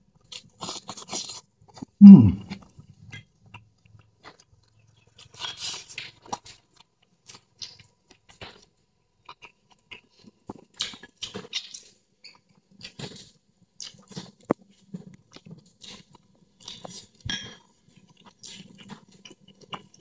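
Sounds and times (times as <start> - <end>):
person chewing crunchy food: 0.2 - 20.0.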